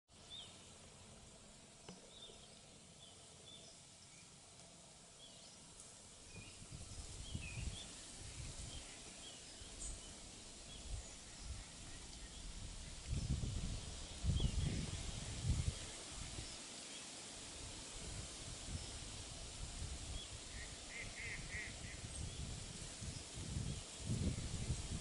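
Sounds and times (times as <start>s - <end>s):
faint birds chirping: 0.1s - 19.2s, 19.8s - 24.9s.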